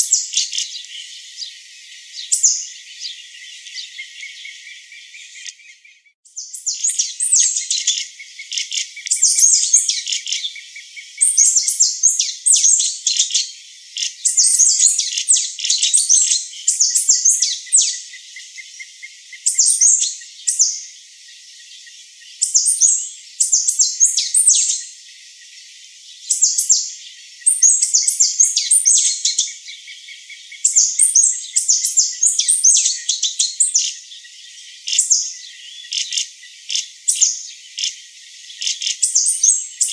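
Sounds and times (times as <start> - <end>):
small songbird chirping: 0.0 - 39.9
faint insect trill: 6.4 - 39.9.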